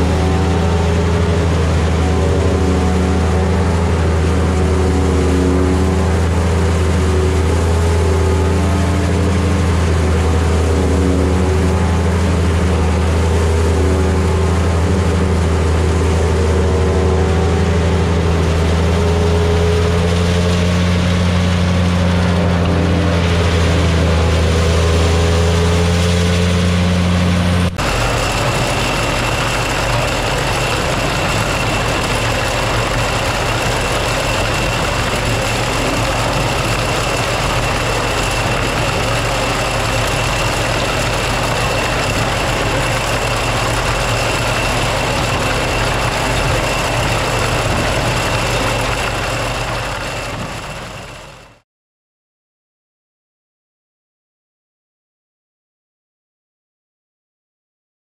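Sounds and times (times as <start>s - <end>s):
engine deep hum: 0.0s - 51.6s
machine high whine and rush: 0.0s - 51.6s.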